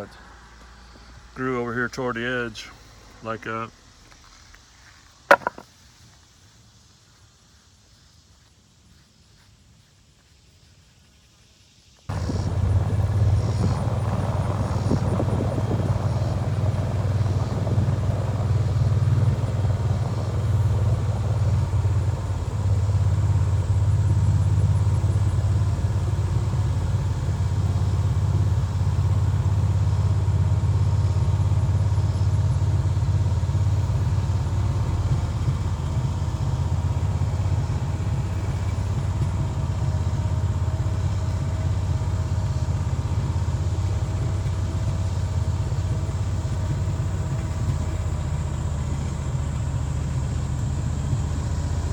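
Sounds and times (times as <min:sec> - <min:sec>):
engine deep drone: 0:00.0 - 0:04.4, 0:12.1 - 0:51.9.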